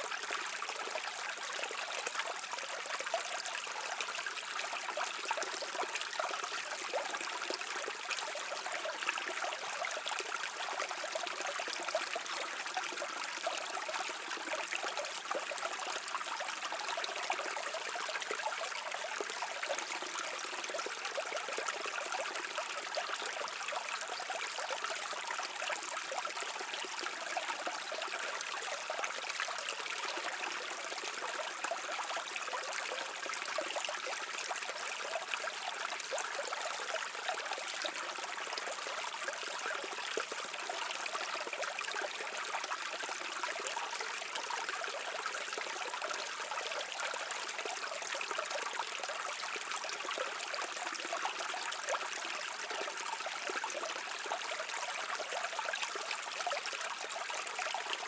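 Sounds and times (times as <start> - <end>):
brook water over rocks: 0.0 - 58.0.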